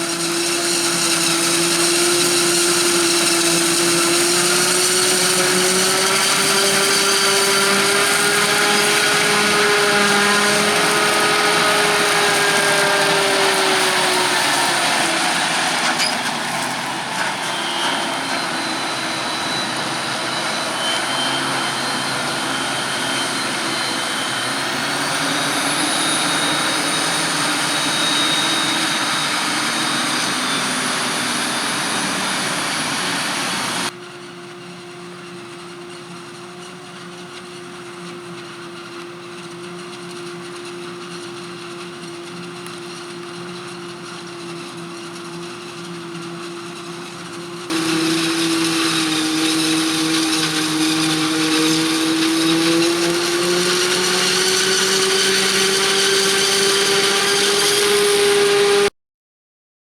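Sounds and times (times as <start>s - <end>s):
farm machinery engines running: 0.0s - 58.9s.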